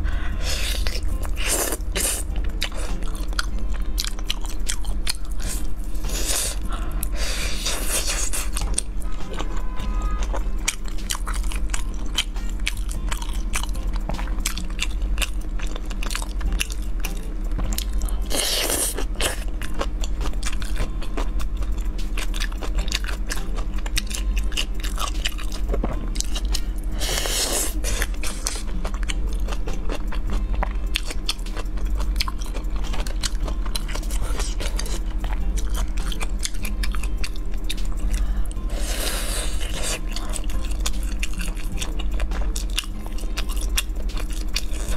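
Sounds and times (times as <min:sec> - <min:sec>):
chewing crunchy food: 0:00.0 - 0:44.9.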